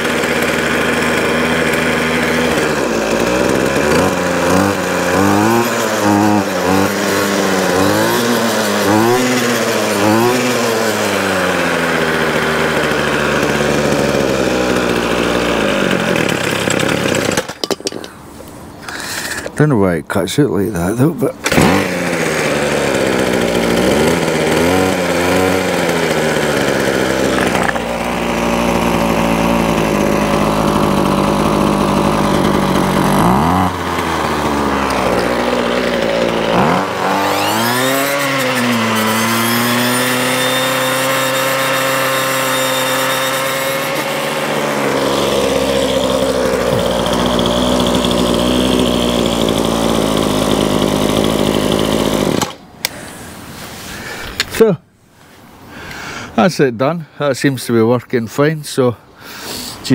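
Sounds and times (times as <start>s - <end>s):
strimmer engine revving: 0.0s - 19.6s, 21.1s - 54.6s.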